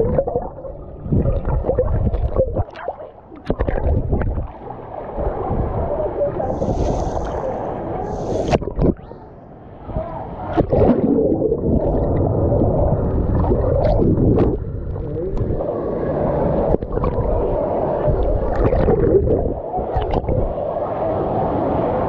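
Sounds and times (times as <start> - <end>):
water sloshing and gurgling: 0.0 - 21.0.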